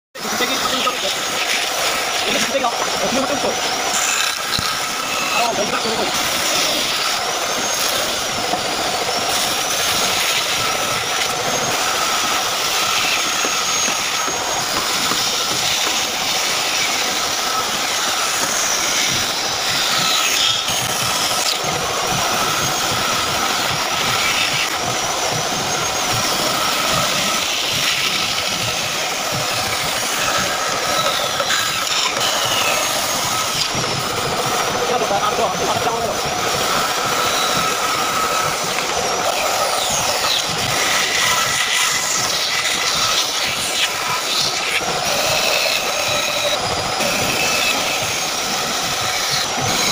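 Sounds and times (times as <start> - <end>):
bandsaw cutting wood: 0.2 - 49.9.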